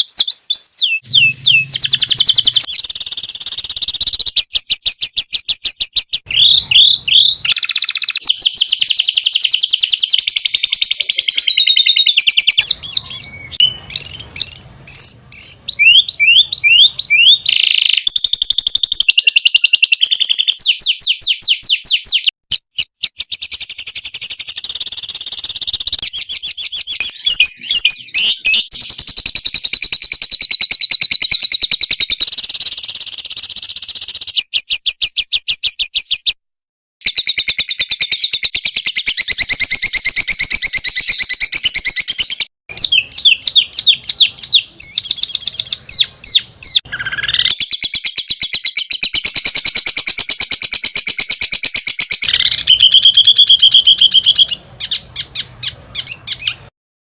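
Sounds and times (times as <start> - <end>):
songbird trills and chirps: 0.0 - 36.4, 37.0 - 56.7.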